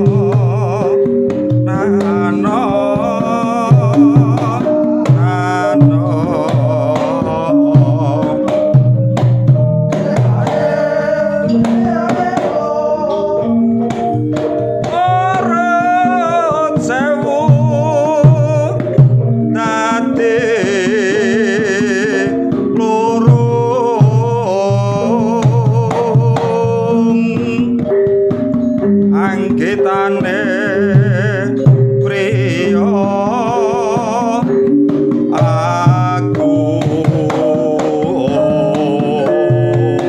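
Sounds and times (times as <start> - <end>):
hand drum strokes and slaps: 0.0 - 40.0
held gamelan tones: 0.0 - 40.0
person singing wavering melody: 0.0 - 40.0.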